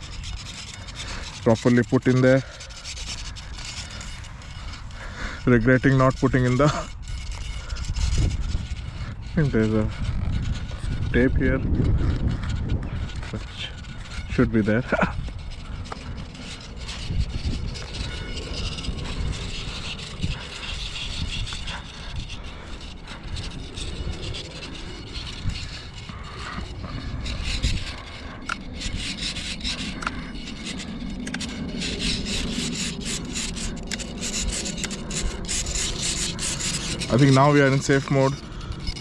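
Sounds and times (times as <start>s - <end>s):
wind on microphone: 0.0s - 39.0s.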